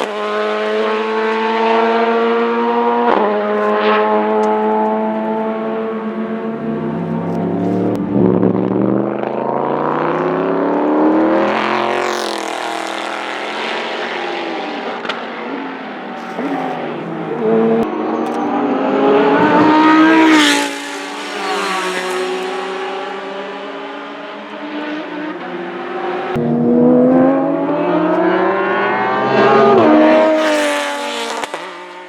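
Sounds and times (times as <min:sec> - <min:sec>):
race cars passing at full throttle: 0:00.0 - 0:32.0.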